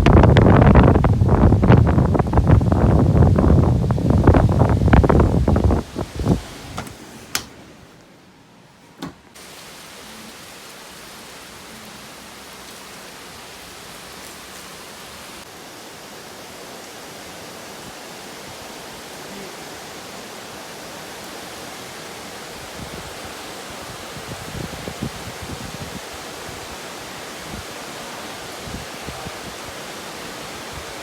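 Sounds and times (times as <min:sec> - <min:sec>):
heavy rain falling: 0:00.0 - 0:07.8, 0:09.3 - 0:31.0.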